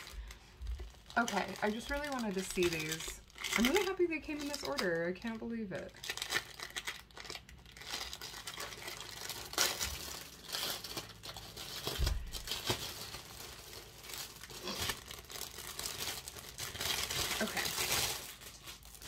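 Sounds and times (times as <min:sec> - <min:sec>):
crinkly packaging rustling: 0:00.0 - 0:19.0.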